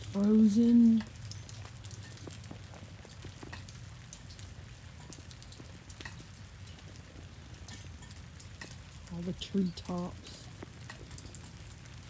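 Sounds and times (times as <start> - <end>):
low steady hum: 0.0 - 12.0
rain drops ticking on ice: 0.0 - 12.0.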